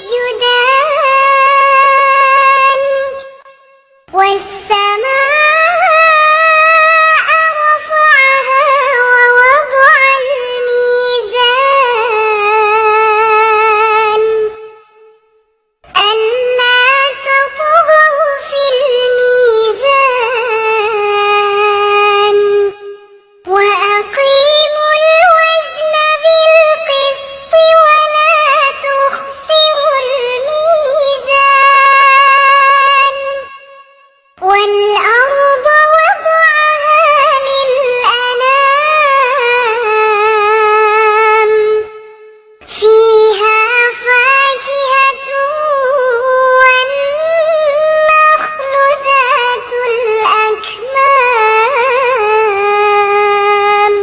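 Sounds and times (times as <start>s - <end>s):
girl reciting melodically: 0.0s - 15.2s, 15.9s - 54.0s.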